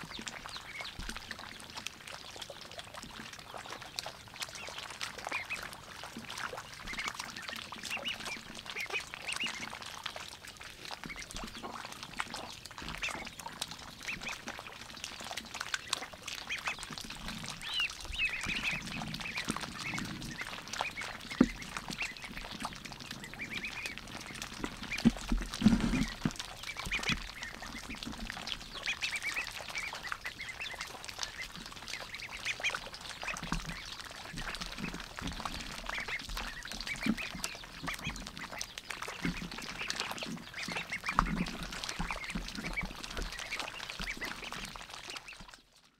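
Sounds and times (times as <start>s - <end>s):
ducklings peeping: 0.0s - 45.6s.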